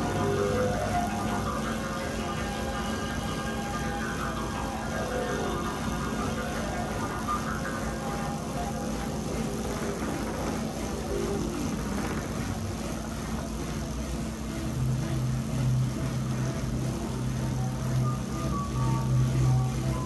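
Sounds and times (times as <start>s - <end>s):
bicycle tyres whirring on rollers: 0.0s - 20.0s.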